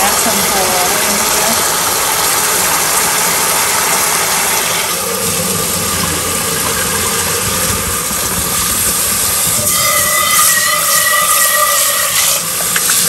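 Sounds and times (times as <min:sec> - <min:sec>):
water running from kitchen tap: 0:00.0 - 0:13.0.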